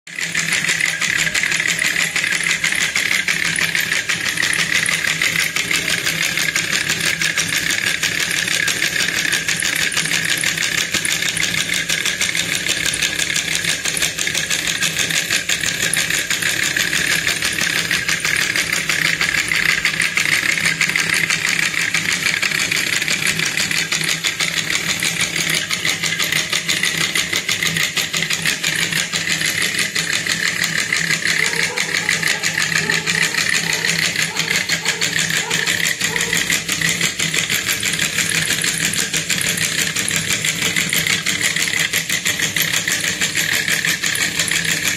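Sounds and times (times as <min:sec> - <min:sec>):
solenoid engine clicking rattle: 0:00.1 - 0:44.9.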